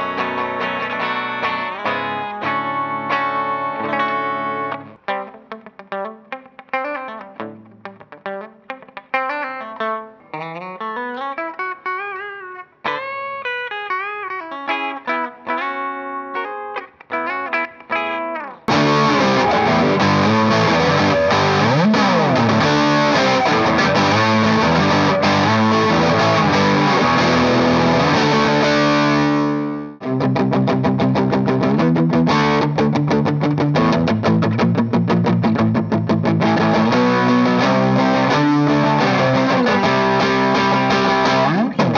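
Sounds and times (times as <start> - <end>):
electric guitar solo: 0.0 - 41.9.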